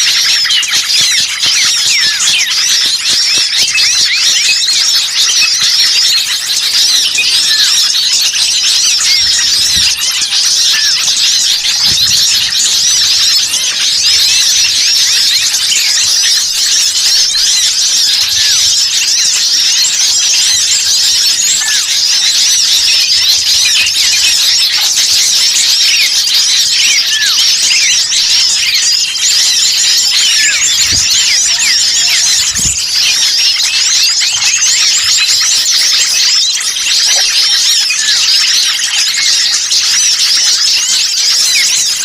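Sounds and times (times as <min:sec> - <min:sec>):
small songbirds chattering: 0:00.0 - 0:42.0.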